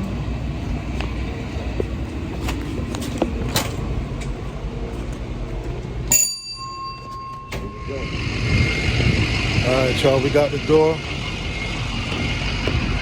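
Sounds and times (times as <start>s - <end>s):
truck engine rumbling: 0.0s - 6.1s, 7.5s - 13.0s.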